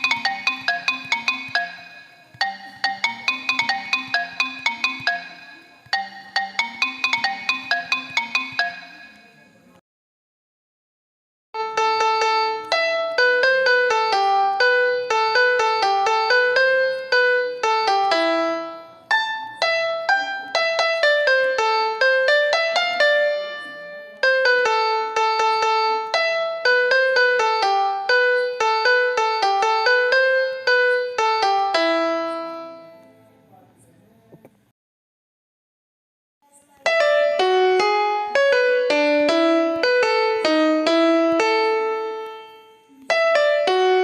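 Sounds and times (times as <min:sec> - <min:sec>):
phone ringtone piano melody: 0:00.0 - 0:09.6, 0:11.6 - 0:33.2, 0:36.8 - 0:44.0.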